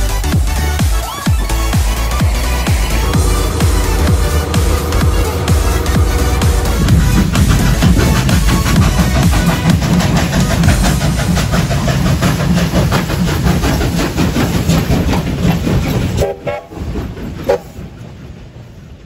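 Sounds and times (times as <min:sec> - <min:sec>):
steam locomotive exhaust beating: 0:00.0 - 0:19.0.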